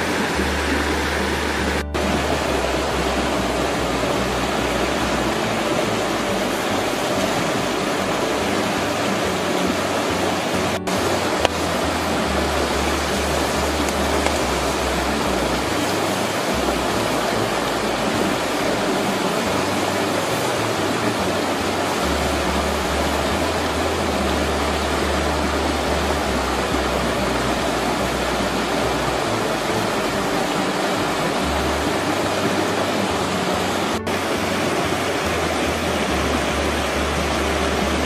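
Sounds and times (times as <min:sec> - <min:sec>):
low rumble: 0:00.0 - 0:38.0
river flowing over rocks: 0:00.0 - 0:38.0.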